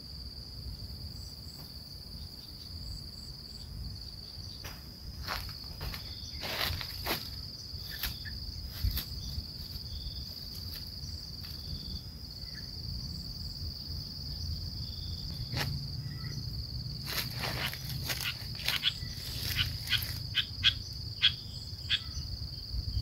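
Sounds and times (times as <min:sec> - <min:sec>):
insect buzzing at high pitch: 0:00.0 - 0:23.0.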